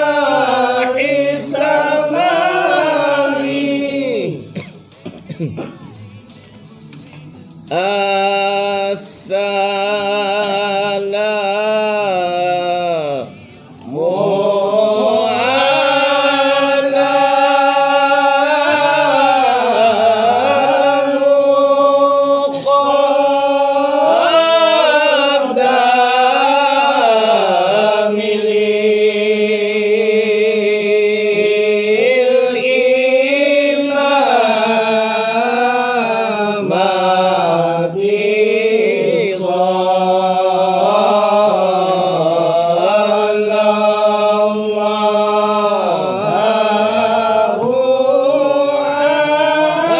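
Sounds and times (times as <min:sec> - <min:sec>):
men chanting: 0:00.0 - 0:04.8, 0:06.0 - 0:49.9.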